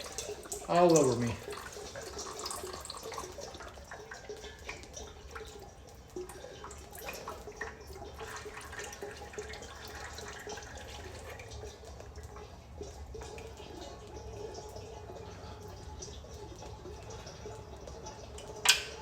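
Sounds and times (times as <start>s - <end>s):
fluid dripping into a drain pan: 0.0s - 19.0s.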